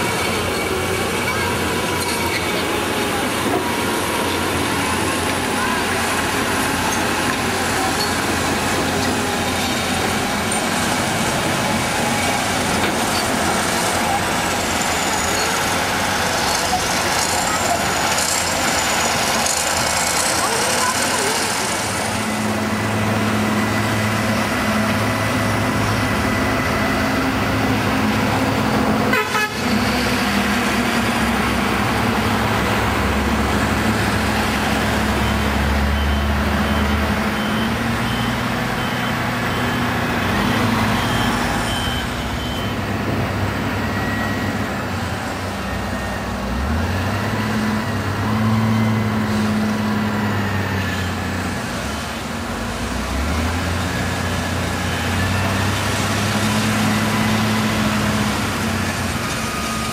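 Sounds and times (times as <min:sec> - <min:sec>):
heavy diesel engines humming: 0:00.0 - 0:59.9.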